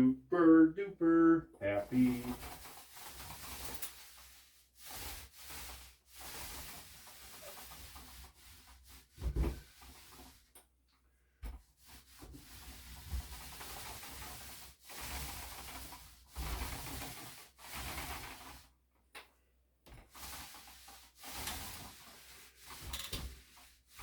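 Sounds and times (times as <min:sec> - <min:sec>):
paint roller rubbing on drywall: 0:01.6 - 0:10.6, 0:11.2 - 0:18.8, 0:20.0 - 0:24.0.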